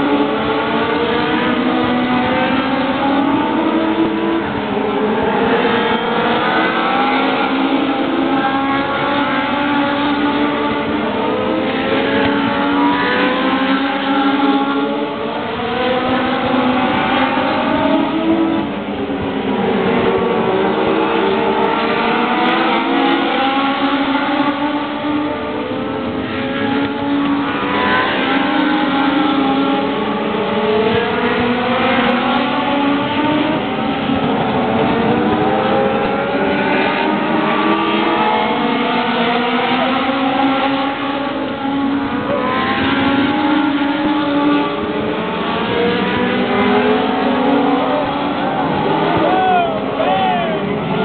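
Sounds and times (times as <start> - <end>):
stock car engines racing: 0.0 - 51.0.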